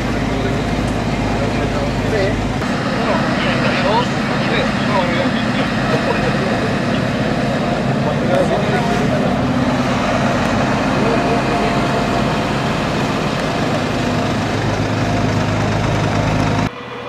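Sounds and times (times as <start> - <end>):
voices talking: 0.0 - 16.7
vehicle engines idling: 0.0 - 17.0.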